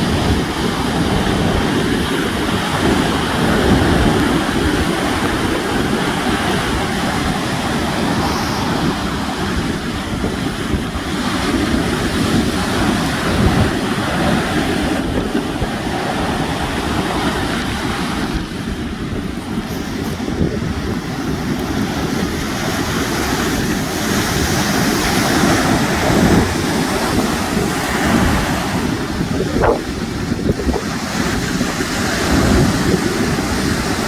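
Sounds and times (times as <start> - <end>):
sea waves washing on shore: 0.0 - 34.0
wind buffeting microphone: 0.0 - 34.0.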